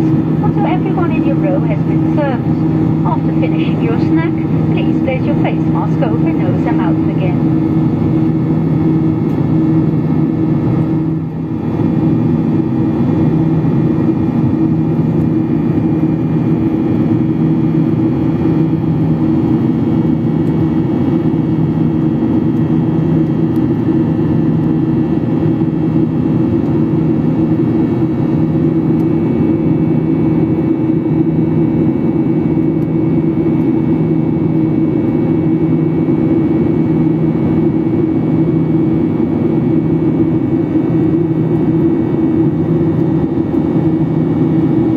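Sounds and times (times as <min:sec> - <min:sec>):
airplane cabin airflow rush: 0:00.0 - 0:44.9
jet engine hum: 0:00.0 - 0:44.9.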